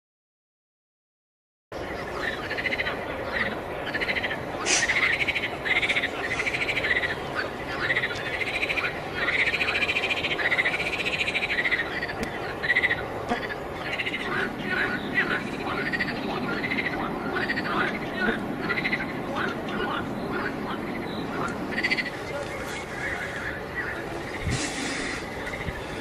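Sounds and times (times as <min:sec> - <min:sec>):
frogs croaking: 0:01.8 - 0:26.0.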